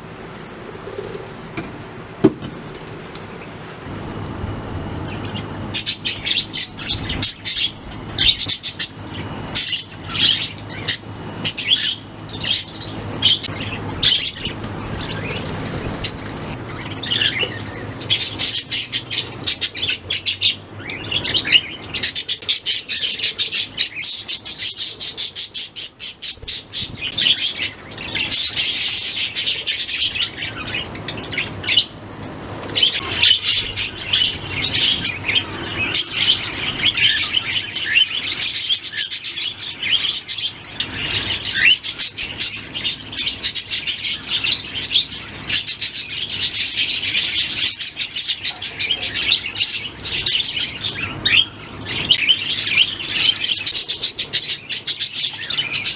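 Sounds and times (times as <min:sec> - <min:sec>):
budgerigars chirping and chattering: 0:00.6 - 0:01.6, 0:05.0 - 0:55.9.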